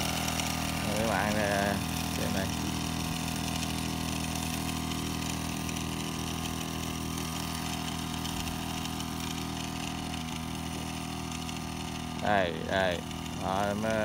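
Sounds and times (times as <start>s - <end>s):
two-stroke sprayer engine running: 0.0s - 14.0s.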